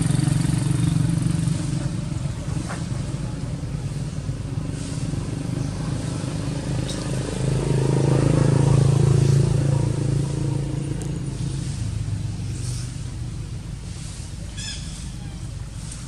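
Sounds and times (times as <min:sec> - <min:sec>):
vehicle engine passing: 0:00.0 - 0:16.0.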